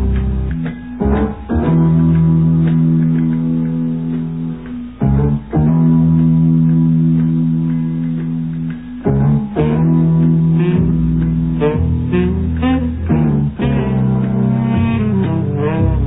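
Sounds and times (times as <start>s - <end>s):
guitar and bass chords: 0.0s - 16.0s.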